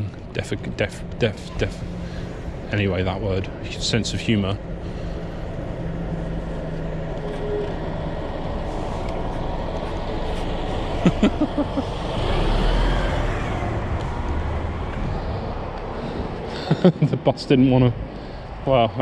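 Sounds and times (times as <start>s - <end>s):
bus engine: 0.0s - 19.0s
road noise rush: 0.0s - 19.0s.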